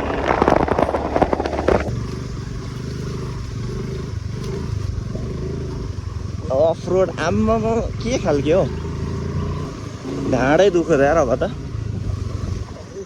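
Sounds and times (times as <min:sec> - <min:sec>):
rattling and scraping on rough road: 0:00.0 - 0:13.0
scooter engine running: 0:00.0 - 0:13.0.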